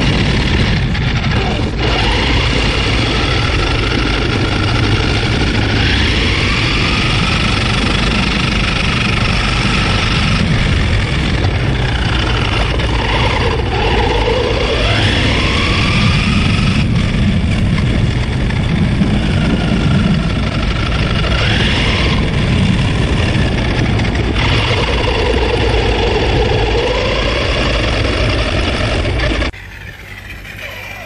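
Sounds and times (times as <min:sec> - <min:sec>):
rc car motor whining: 0:00.0 - 0:31.0
steady low rumble: 0:00.0 - 0:31.0.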